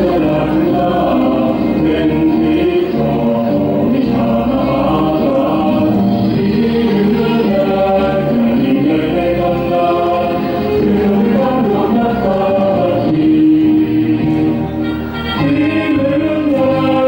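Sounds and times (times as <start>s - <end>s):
song with group singing: 0.0s - 17.0s.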